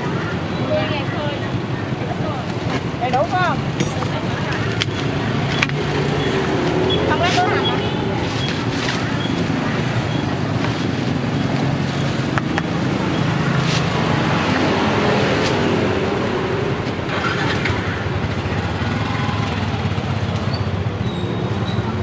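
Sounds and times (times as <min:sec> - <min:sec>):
street traffic engines humming: 0:00.0 - 0:22.0.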